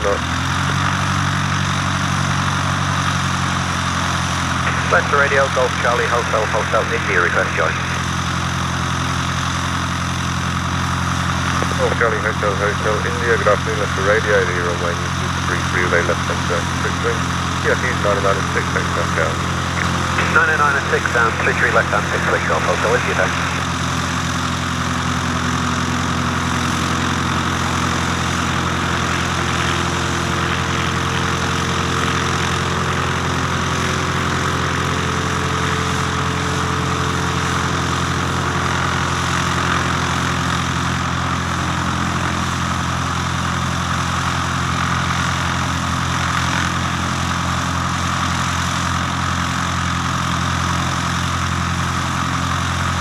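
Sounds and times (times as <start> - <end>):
propeller plane engine droning: 0.0 - 53.0.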